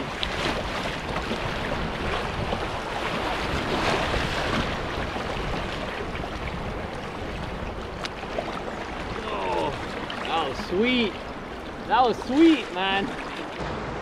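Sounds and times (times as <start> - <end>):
wind buffeting microphone: 0.0 - 13.0
rushing whitewater: 0.0 - 14.0.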